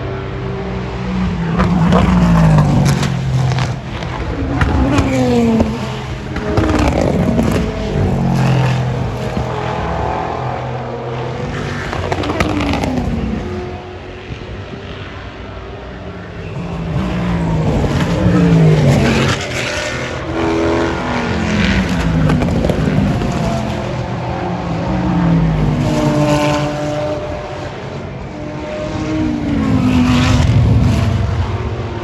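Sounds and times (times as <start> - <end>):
race cars passing at speed: 0.0 - 32.0.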